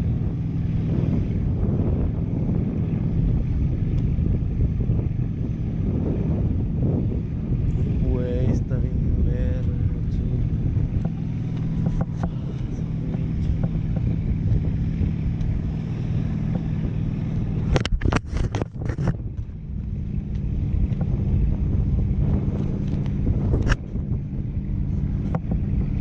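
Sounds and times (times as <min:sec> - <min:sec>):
low hum: 0:00.0 - 0:26.0
wind rushing over microphone: 0:00.0 - 0:26.0.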